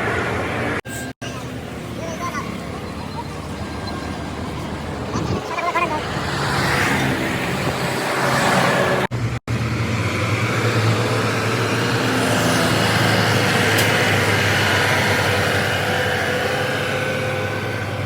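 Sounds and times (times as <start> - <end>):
traffic noise: 0.0 - 18.0.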